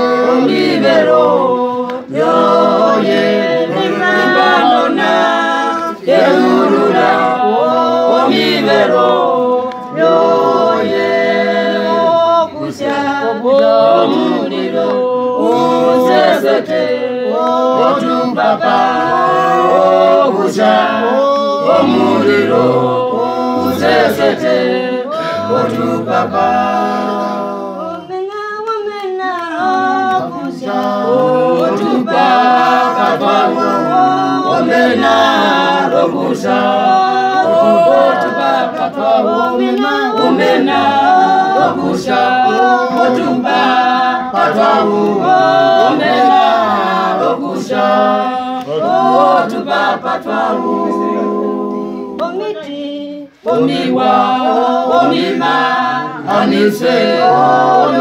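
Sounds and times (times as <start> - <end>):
choir singing a hymn a cappella: 0.0 - 58.0.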